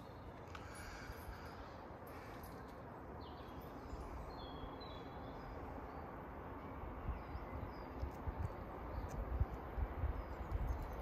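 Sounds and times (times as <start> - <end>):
low outdoor background noise: 0.0 - 11.0
small birds chirping: 0.0 - 11.0.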